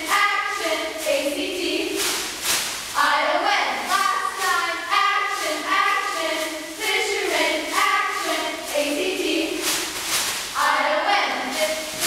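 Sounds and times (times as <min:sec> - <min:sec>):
girls chanting a cheer: 0:00.0 - 0:02.0, 0:03.0 - 0:09.6, 0:10.6 - 0:12.0
pom-pom rustles: 0:00.0 - 0:12.0.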